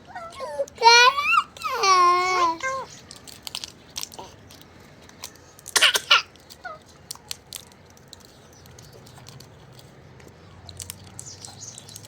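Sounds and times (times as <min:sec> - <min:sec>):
parrot beak crunching food: 0:00.2 - 0:12.0.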